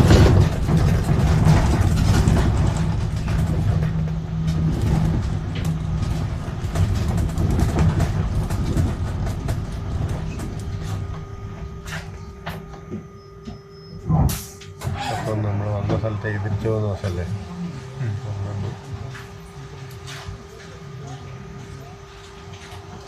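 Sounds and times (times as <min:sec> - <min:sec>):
tram rumbling on rails: 0:00.0 - 0:13.0, 0:13.7 - 0:23.0.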